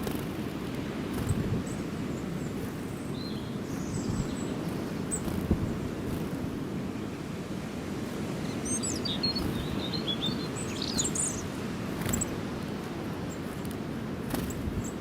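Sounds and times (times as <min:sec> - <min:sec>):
small birds chirping: 0:01.1 - 0:07.4, 0:08.2 - 0:15.0.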